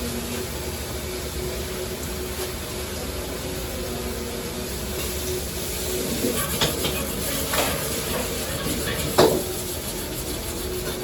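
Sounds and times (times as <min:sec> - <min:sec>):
hood fan running: 0:00.0 - 0:11.0.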